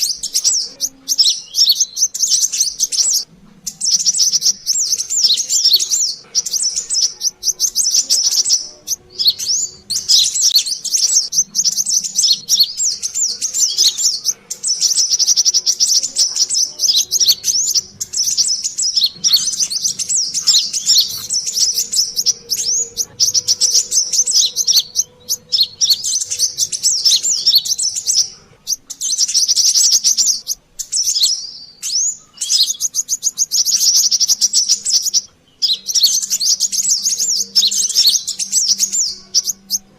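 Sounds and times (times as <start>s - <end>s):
sunbirds twittering: 0.0s - 39.9s.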